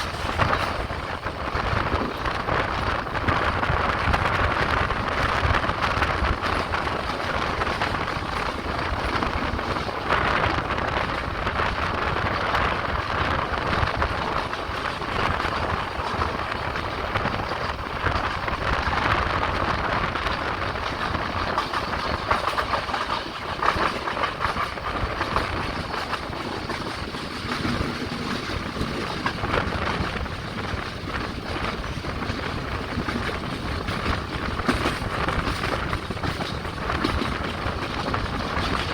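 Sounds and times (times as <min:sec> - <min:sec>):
small clicks of train wheels: 0:00.0 - 0:38.9
train wheels rattling on rails: 0:00.0 - 0:38.9.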